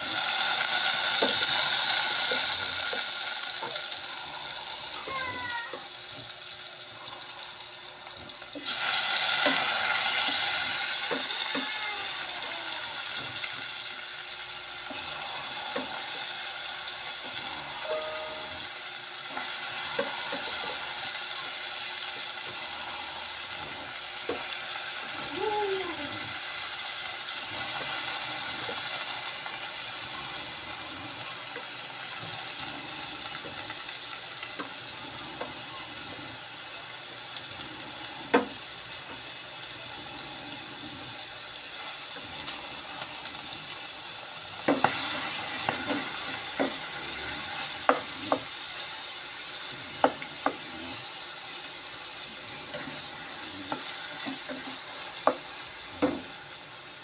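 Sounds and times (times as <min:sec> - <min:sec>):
meat sizzling in a pot: 0:00.0 - 0:57.0.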